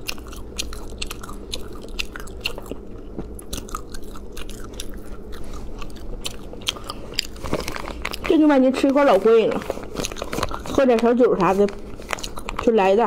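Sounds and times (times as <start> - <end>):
chewing clicks and crunches: 0.0 - 13.0.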